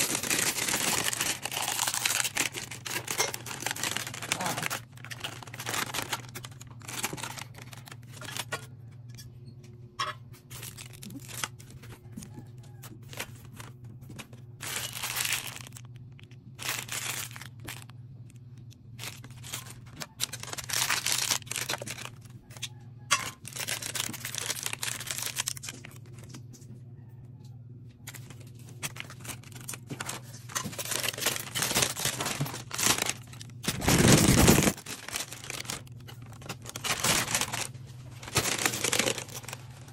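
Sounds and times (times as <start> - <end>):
packaging being torn and crinkled: 0.0 - 8.6, 10.4 - 12.4, 13.0 - 22.6, 23.3 - 26.4, 28.1 - 39.9.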